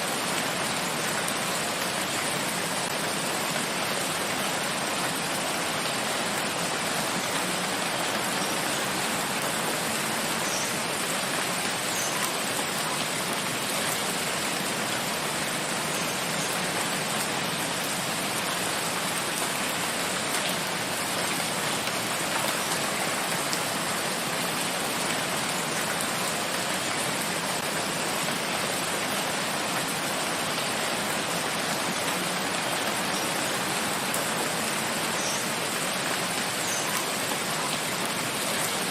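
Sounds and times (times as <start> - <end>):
rain falling in a forest: 0.0 - 38.9.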